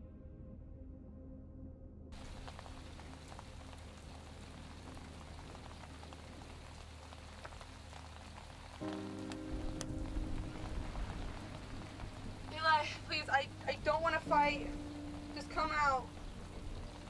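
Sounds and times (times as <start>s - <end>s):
shower water running: 2.2s - 17.0s.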